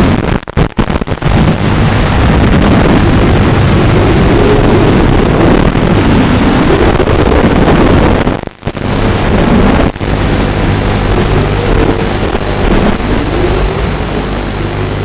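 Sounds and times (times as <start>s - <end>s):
wind rush: 0.0s - 15.0s
quadcopter propellers buzzing: 1.5s - 7.8s, 8.8s - 15.0s.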